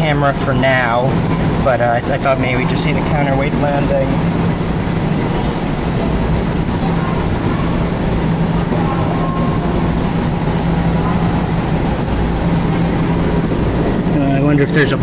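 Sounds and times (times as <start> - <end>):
mechanical hum: 0.0 - 15.0
rumbling noise: 0.0 - 15.0.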